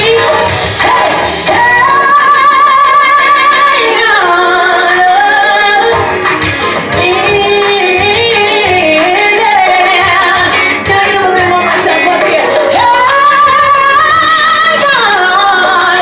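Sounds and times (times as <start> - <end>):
woman singing gospel solo: 0.0 - 6.1, 6.9 - 16.0.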